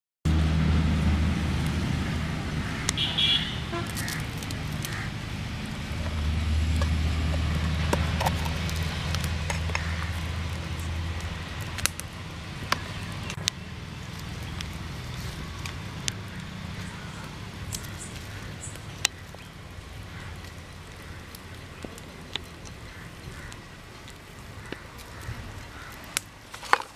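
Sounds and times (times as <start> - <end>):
vehicle engine rumble: 0.3 - 26.9.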